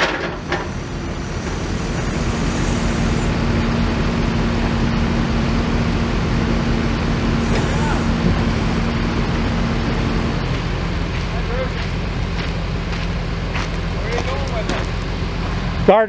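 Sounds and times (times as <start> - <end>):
heavy vehicle engine idling: 0.0 - 16.0.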